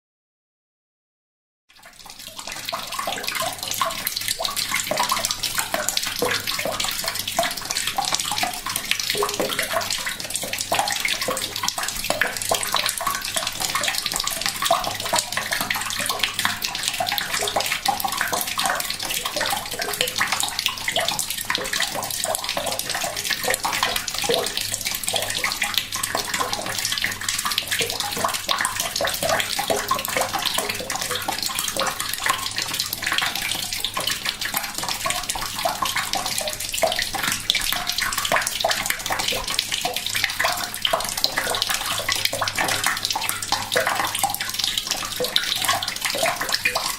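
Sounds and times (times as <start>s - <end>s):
tap water trickling into bucket: 1.7s - 46.9s.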